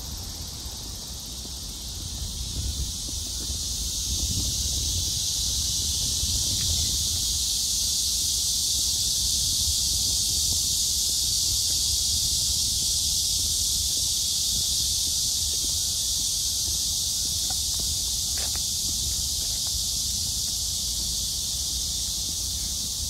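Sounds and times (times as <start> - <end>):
insects buzzing and shrilling: 0.0 - 23.0.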